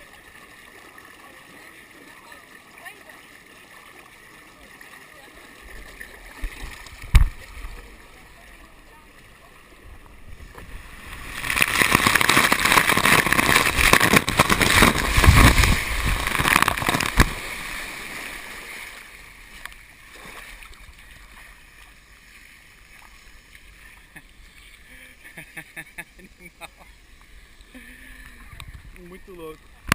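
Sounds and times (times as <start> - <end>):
rushing water: 0.0 - 29.9.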